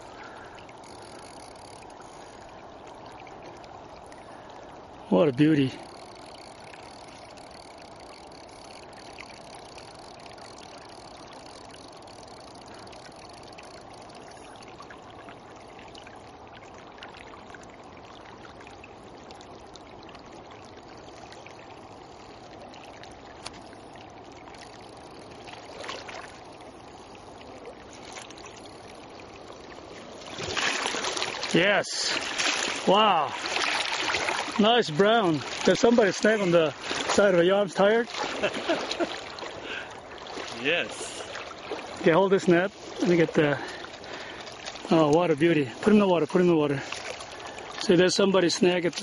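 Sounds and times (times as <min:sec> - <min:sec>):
river water flowing: 0:00.0 - 0:49.0.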